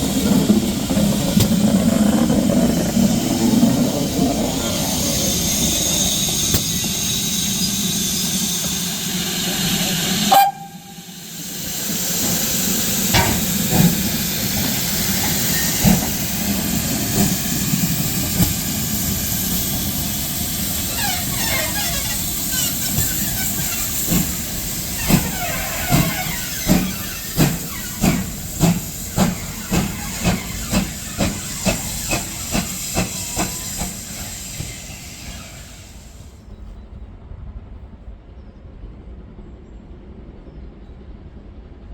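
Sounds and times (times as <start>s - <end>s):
locomotive exhaust beats: 0.0s - 35.9s
steam locomotive hissing: 0.0s - 36.4s.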